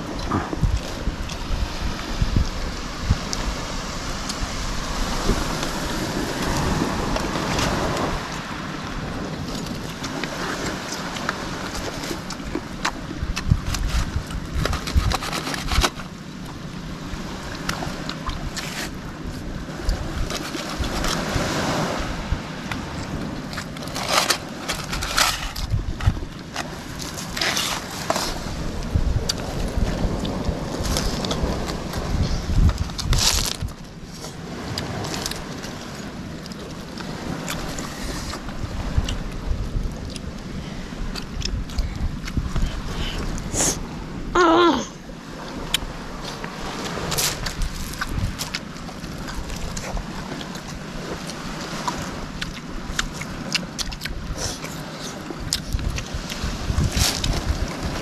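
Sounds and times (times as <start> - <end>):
sea water wash: 0.0 - 58.0
wind gusting on microphone: 0.0 - 58.0.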